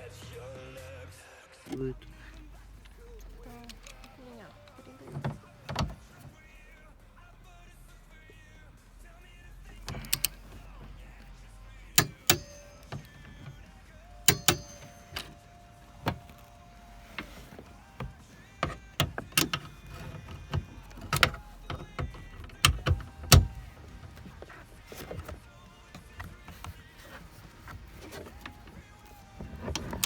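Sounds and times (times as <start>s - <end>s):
clicks and knocks on car parts: 1.7s - 30.0s.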